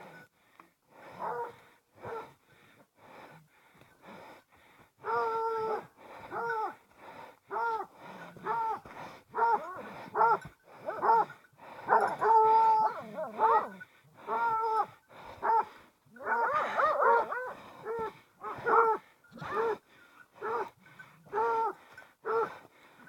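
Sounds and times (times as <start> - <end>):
hounds baying: 1.1 - 2.4, 5.0 - 6.9, 7.5 - 23.0.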